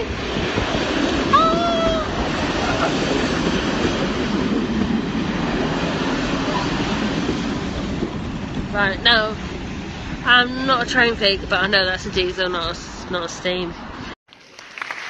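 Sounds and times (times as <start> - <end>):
diesel train rumbling past: 0.0 - 14.2.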